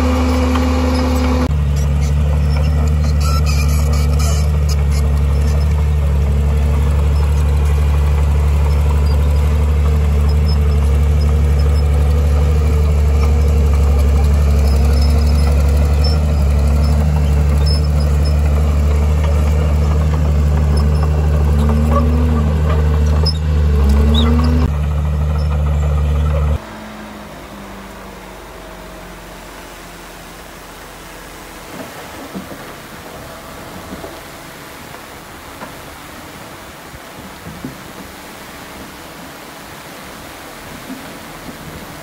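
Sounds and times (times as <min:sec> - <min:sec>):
heavy diesel engine droning: 0:00.0 - 0:42.0.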